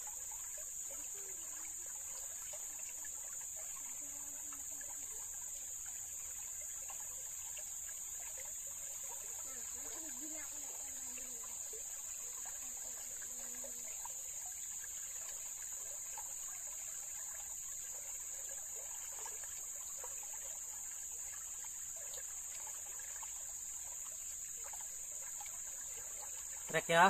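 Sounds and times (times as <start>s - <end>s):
stream babbling over stones: 0.0s - 27.0s.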